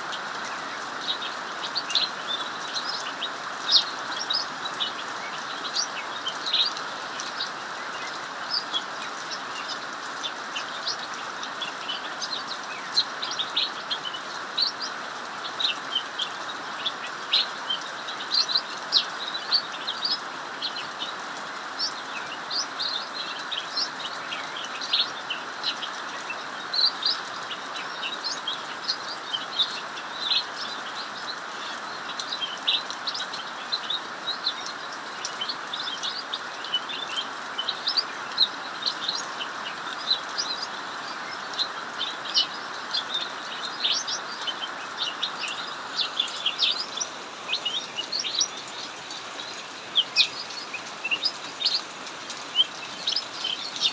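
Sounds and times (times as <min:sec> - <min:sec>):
heavy rain falling: 0:00.0 - 0:53.9
songbird chirping: 0:00.0 - 0:53.9.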